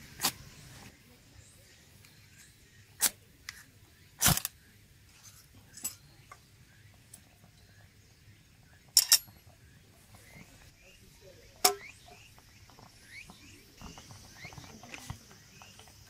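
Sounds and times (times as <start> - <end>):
faint chirps: 0.0 - 16.0.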